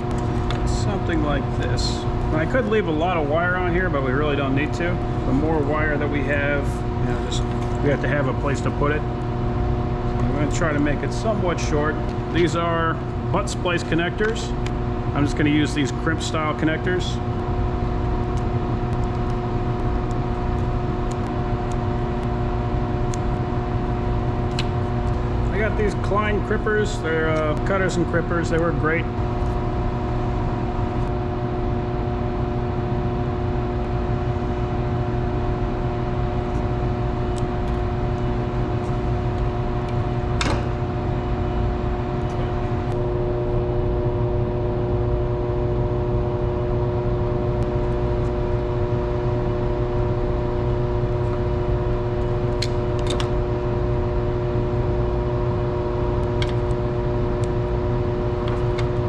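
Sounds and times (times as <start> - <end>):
machinery hum with held tones: 0.0 - 59.0.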